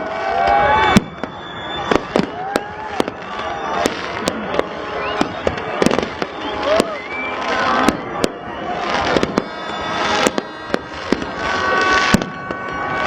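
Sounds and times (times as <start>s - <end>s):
fireworks bangs: 0.0s - 13.0s
fireworks whistling and hiss: 0.0s - 13.0s.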